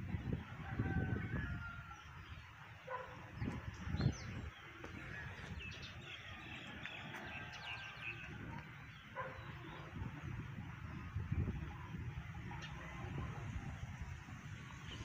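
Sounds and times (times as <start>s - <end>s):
birds chirping and calling: 0.0s - 13.6s.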